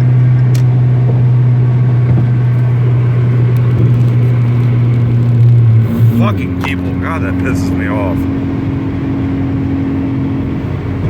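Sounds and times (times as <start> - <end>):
car driving interior drone: 0.0 - 11.0.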